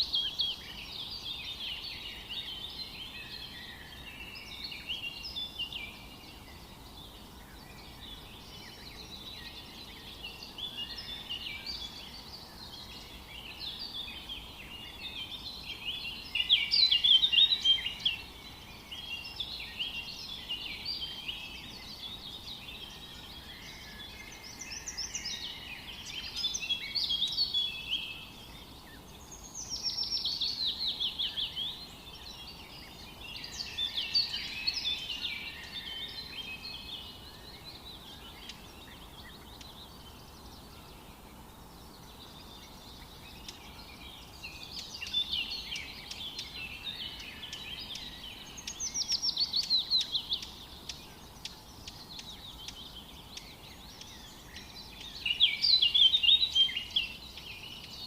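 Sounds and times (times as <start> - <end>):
faint steady hiss: 0.0 - 58.0
many birds chirping and trilling: 0.0 - 58.0.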